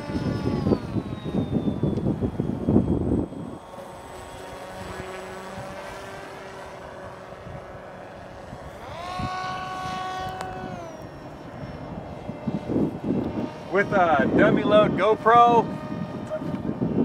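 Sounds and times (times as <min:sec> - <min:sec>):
electric motor and propeller whining: 0:00.0 - 0:17.0.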